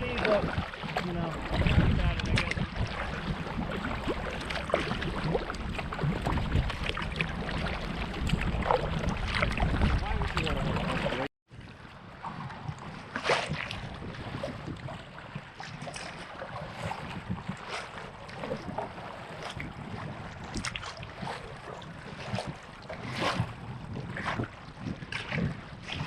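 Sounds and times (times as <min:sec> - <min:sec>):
paddle strokes splashing: 0:00.0 - 0:26.0
water lapping at hull: 0:00.0 - 0:26.0
wind buffeting microphone: 0:00.0 - 0:26.0.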